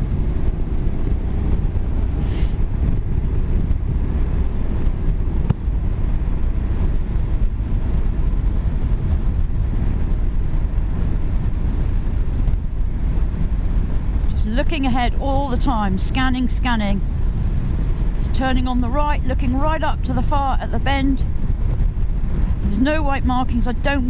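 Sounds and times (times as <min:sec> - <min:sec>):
motorcycle engine and road noise: 0:00.0 - 0:24.0
wind rumble on microphone: 0:00.0 - 0:24.0.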